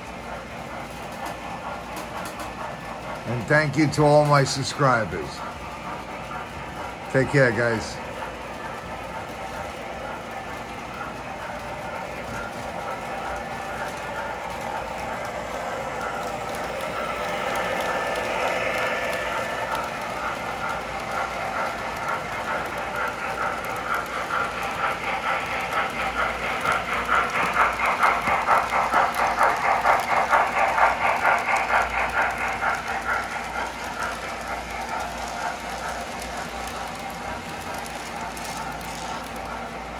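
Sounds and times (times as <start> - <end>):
model train wheels clattering: 0.0 - 39.9.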